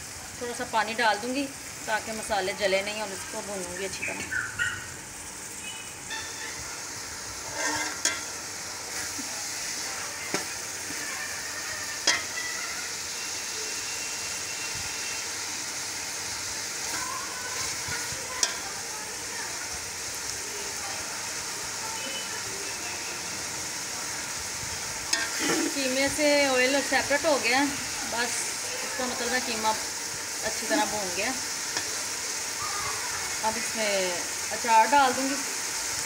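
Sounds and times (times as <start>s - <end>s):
meat sizzling in a pot: 0.0s - 36.0s.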